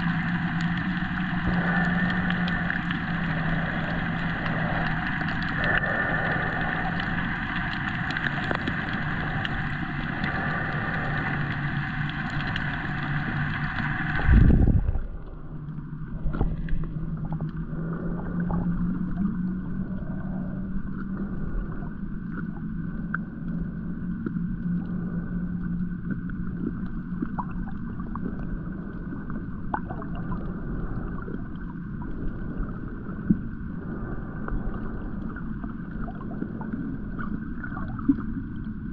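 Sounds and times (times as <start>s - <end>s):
steady low hum: 0.0s - 38.9s
underwater water noise: 0.0s - 38.9s.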